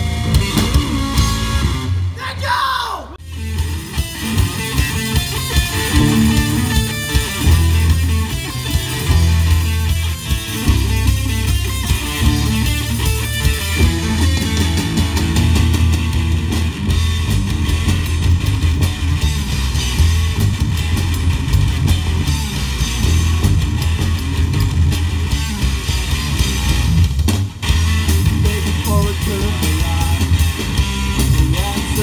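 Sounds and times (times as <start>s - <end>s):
drum kit: 0.0s - 2.3s, 3.2s - 32.0s
electric guitar: 0.0s - 2.5s, 3.2s - 32.0s
bass guitar: 0.0s - 32.0s.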